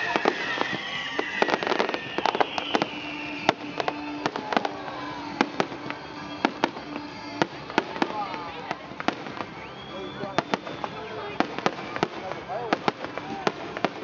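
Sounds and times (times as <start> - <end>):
falling whistling tones: 0.0 - 14.0
fireworks bangs and crackles: 0.0 - 14.0.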